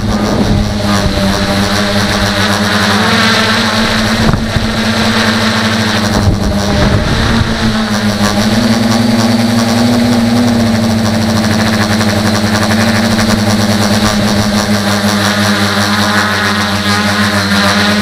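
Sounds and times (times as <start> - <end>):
drone motors and propellers humming: 0.0 - 18.0.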